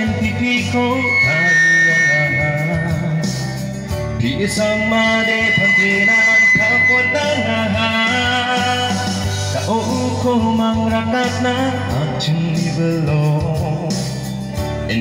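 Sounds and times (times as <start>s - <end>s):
instrumental backing music: 0.0s - 15.0s
man singing into a microphone: 0.0s - 15.0s.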